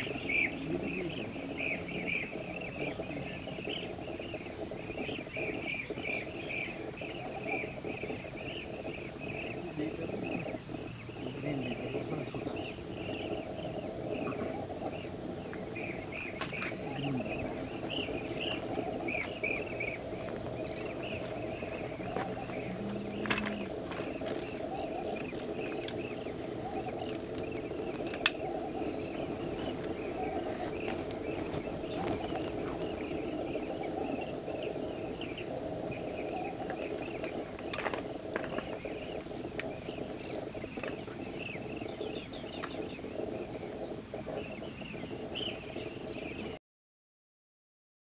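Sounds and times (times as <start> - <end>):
birds chirping: 0.0 - 46.6
low din of bird calls: 0.0 - 46.6.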